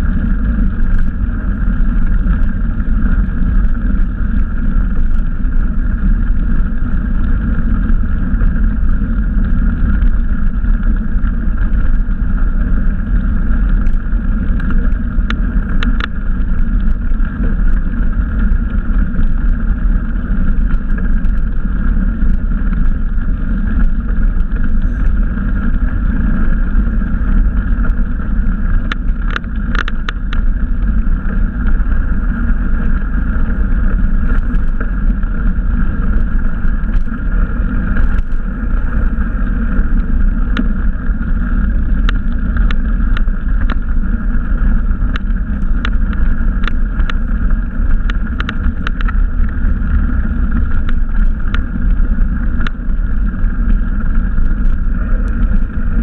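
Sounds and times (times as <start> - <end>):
bicycle clicks and rattles: 0.0 - 56.0
wind and tyres rumbling: 0.0 - 56.0.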